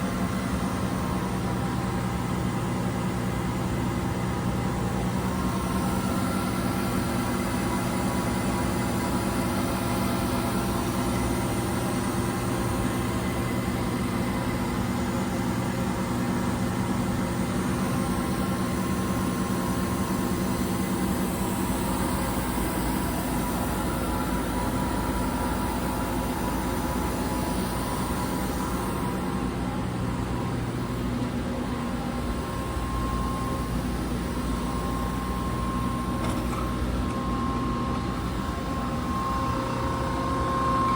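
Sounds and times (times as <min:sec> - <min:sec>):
lathe machine hum: 0:00.0 - 0:40.9.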